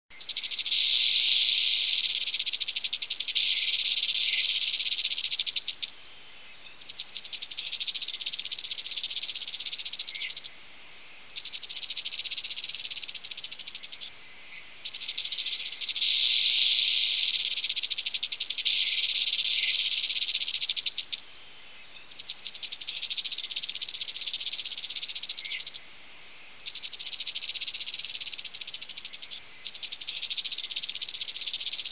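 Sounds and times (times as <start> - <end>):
snake rattling hiss: 0.1 - 6.1, 6.7 - 31.9.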